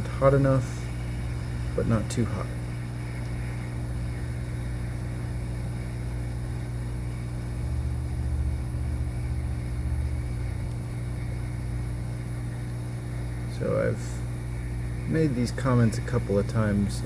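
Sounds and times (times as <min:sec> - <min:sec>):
hot air blower humming: 0:00.0 - 0:17.0.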